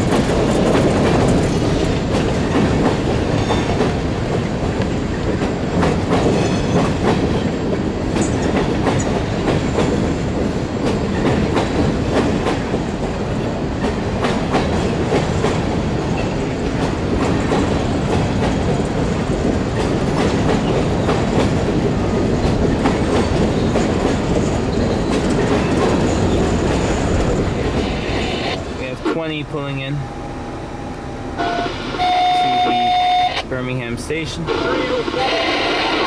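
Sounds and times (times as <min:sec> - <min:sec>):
railroad cars rumbling past: 0:00.0 - 0:36.0.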